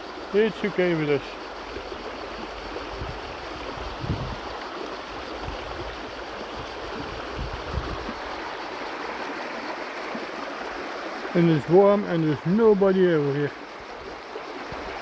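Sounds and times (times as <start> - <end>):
river water over rocks: 0.0 - 15.0.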